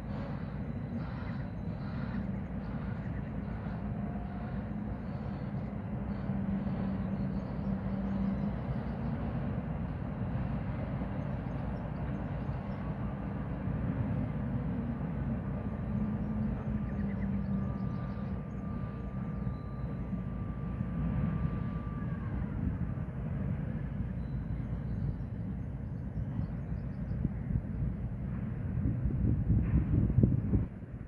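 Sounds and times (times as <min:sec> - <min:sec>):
faint high whine: 0:00.0 - 0:27.8
low mechanical rumble: 0:00.0 - 0:31.0.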